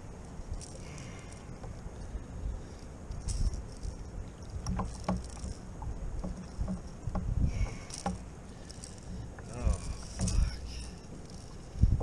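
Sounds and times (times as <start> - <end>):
water and wind against hull: 0.0 - 12.0
small clicks and knocks: 0.5 - 12.0.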